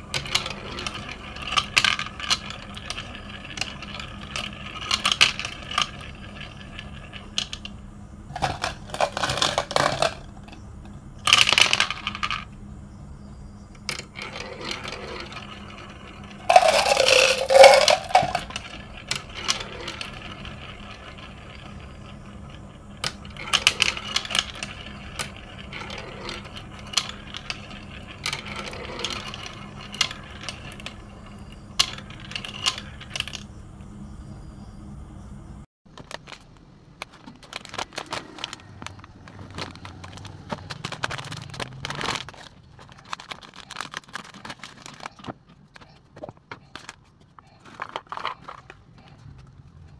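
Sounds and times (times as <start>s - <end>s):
marbles clattering through tubes: 0.0s - 12.5s, 13.8s - 33.5s, 35.9s - 47.0s.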